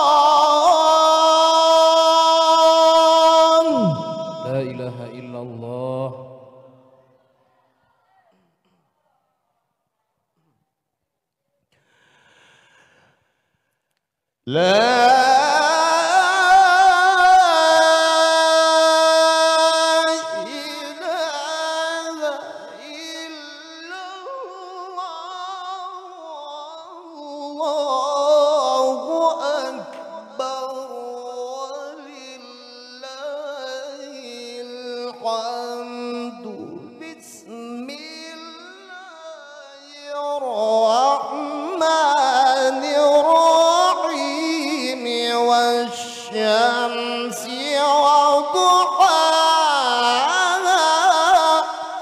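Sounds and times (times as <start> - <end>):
man reciting melodically into microphone: 0.0 - 7.4, 14.4 - 52.0.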